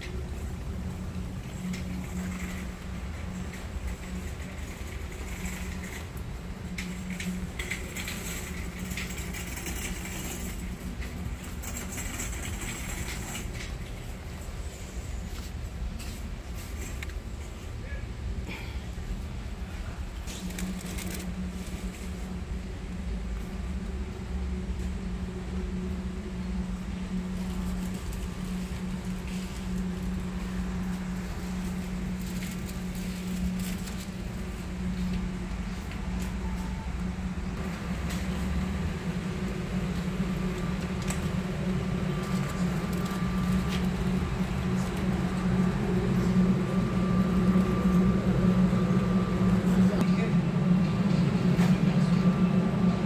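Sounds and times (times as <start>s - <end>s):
low hum and rumble of store interior: 0.0s - 53.0s.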